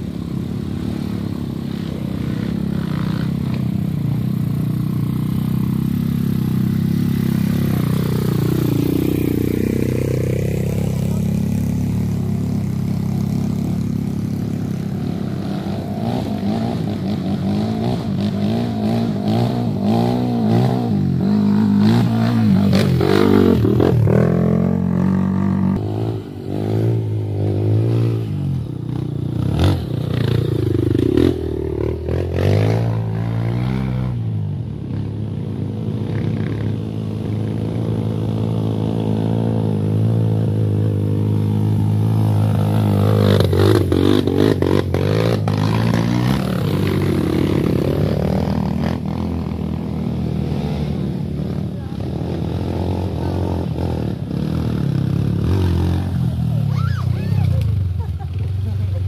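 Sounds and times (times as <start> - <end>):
dirt bike engines revving: 0.0 - 59.0
dirt bike passing close: 0.0 - 59.0.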